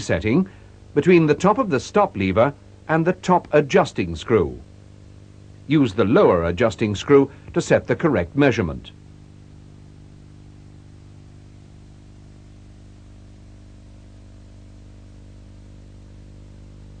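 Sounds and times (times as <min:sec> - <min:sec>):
faint hiss: 0:00.0 - 0:17.0
steady low hum: 0:00.0 - 0:17.0.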